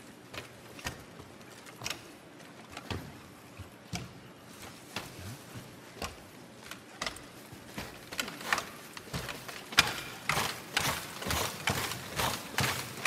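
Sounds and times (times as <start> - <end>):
hooves clip-clopping on stage floor: 0.0 - 13.0.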